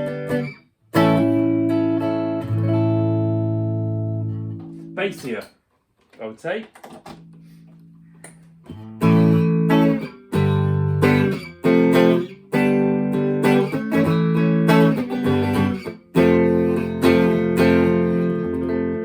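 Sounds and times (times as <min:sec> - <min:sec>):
electric guitar strummed chords: 0:00.0 - 0:05.4, 0:07.2 - 0:19.0.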